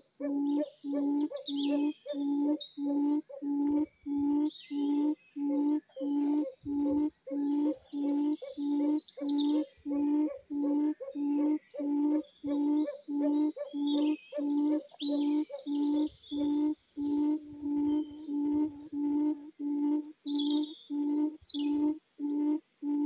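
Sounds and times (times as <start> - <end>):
small birds chirping and trilling: 0.0 - 22.6
low hooting quail call: 0.0 - 23.0.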